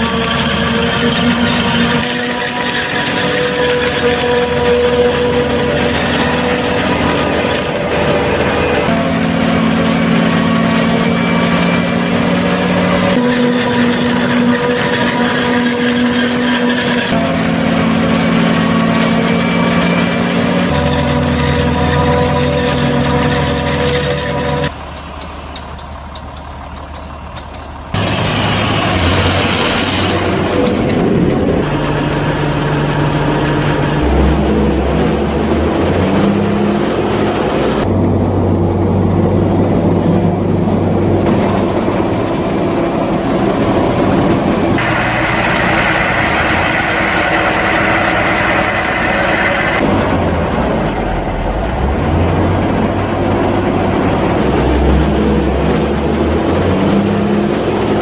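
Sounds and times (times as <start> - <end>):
diesel farm machinery running: 0.0 - 58.0.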